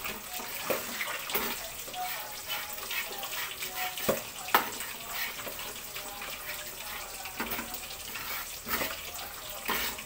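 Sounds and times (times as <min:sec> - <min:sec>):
liquid simmering in a pan: 0:00.0 - 0:10.0.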